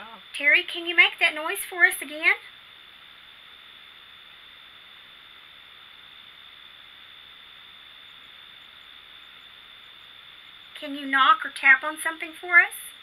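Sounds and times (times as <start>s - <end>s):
high-pitched whine: 0.0s - 13.0s
steady hiss: 0.0s - 13.0s.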